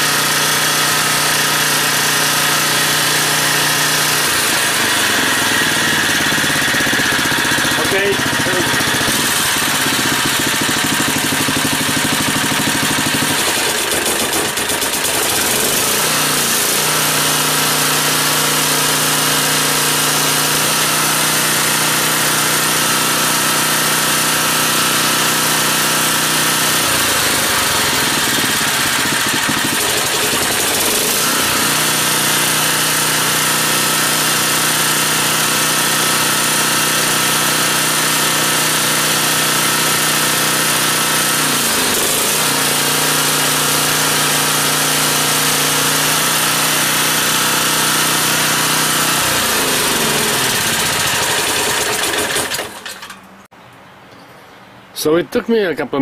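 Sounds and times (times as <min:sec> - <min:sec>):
portable generator engine running: 0:00.0 - 0:53.4.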